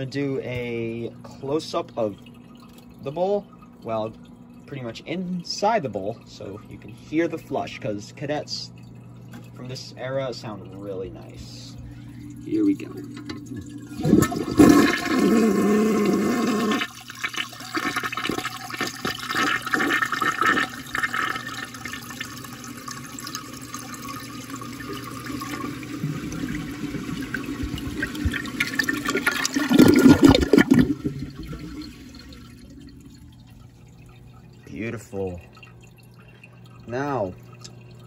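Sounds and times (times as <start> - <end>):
toilet flushing: 0.0 - 38.0
loud siphon gurgle: 0.7 - 38.0
water swirling and gurgling: 1.1 - 38.0.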